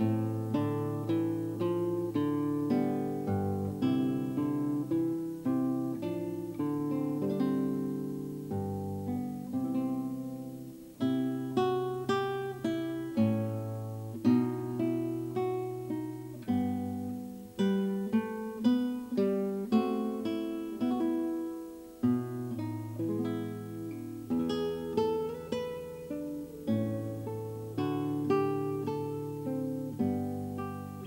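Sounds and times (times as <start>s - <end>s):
guitar picking notes and chords: 0.0s - 31.0s.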